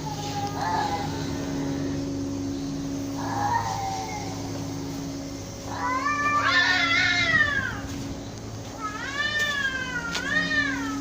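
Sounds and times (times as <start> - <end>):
cats yowling: 0.0 - 8.0, 8.6 - 11.0.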